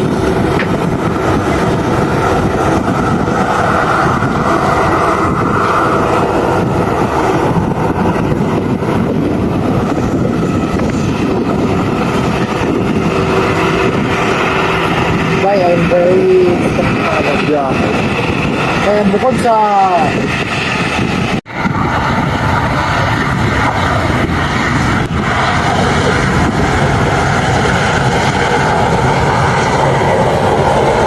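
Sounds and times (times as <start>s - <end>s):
aircraft engines running: 0.0s - 31.0s.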